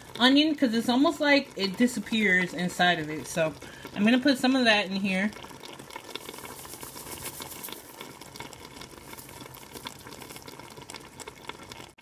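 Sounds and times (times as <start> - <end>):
chicken bubbling and crackling in oil: 0.0 - 12.0.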